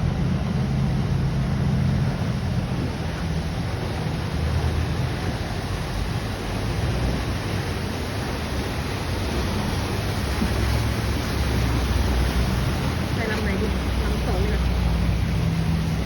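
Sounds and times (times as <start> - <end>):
boat engine rumble: 0.0 - 16.0
rush of churned water: 0.0 - 16.0.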